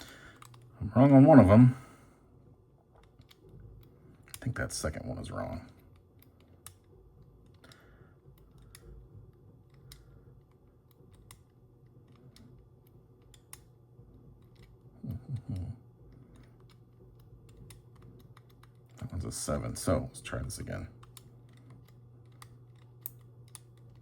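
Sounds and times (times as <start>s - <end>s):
padlock number wheels clicking: 2.9s - 24.0s.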